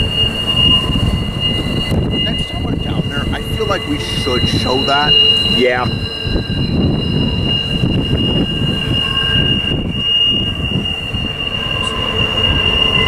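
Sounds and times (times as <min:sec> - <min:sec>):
freight train rumbling: 0:00.0 - 0:13.0
train wheels squealing: 0:00.0 - 0:13.0.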